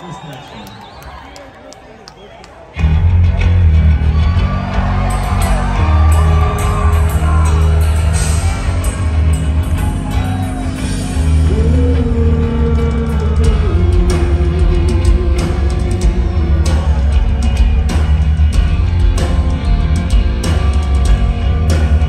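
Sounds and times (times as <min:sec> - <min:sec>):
heavy rock band playing live: 0:02.8 - 0:22.0.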